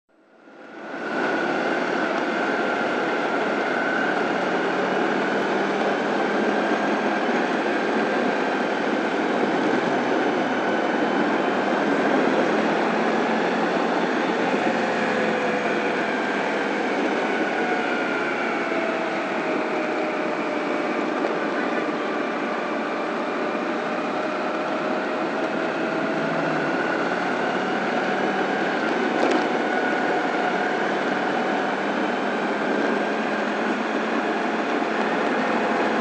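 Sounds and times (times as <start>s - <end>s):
wind and road noise: 0.1s - 36.0s.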